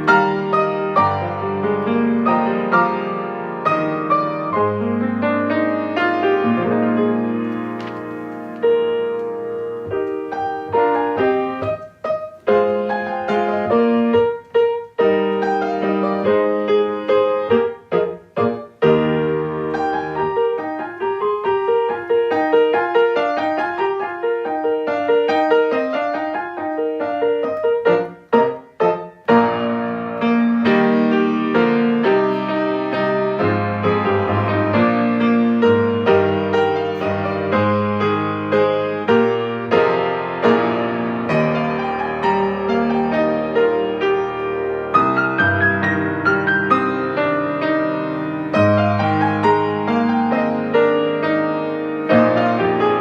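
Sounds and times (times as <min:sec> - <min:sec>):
slow classical piano piece: 0:00.0 - 0:53.0.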